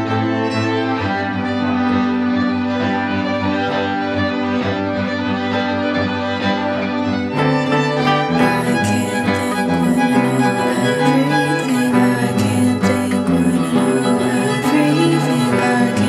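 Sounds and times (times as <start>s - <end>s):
acoustic guitar: 0.0s - 16.0s
string quartet playing held chords: 0.0s - 16.0s.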